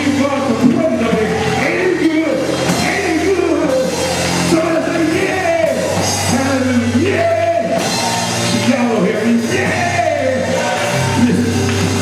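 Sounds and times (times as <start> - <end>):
instrumental accompaniment: 0.0 - 12.0
man singing gospel: 0.0 - 12.0.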